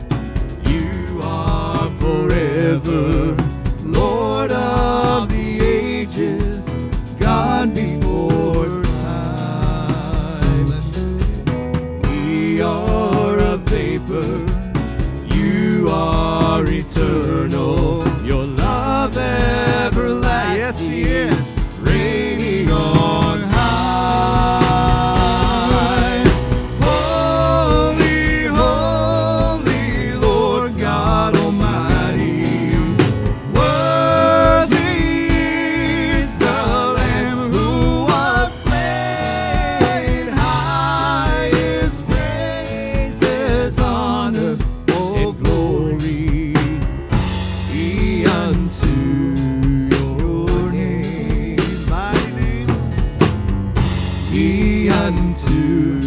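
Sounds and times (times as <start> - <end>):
drum kit beat: 0.0 - 56.0
worship band playing: 0.0 - 56.0
person singing: 0.6 - 11.4, 12.0 - 46.9, 47.6 - 53.0, 54.2 - 56.0.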